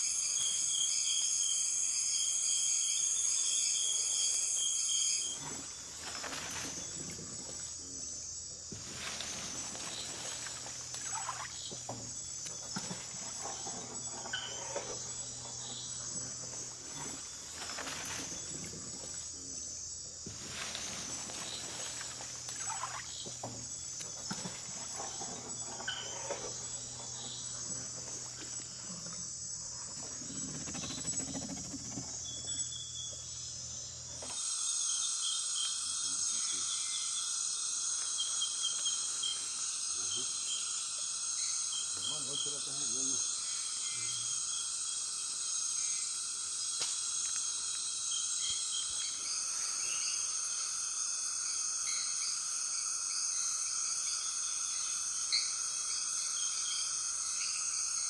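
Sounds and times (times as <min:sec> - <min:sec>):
crickets and insects trilling: 0:00.0 - 0:58.0.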